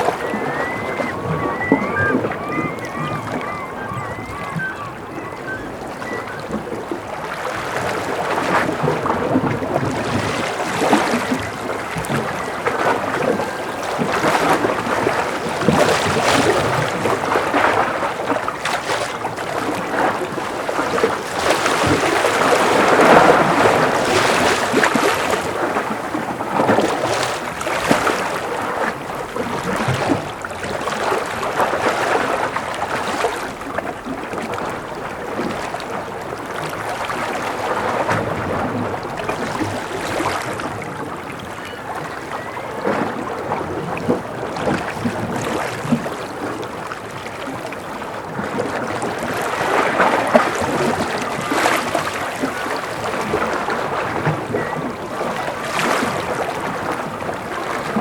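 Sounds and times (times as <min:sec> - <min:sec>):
ocean waves against a breakwater: 0:00.0 - 0:58.0.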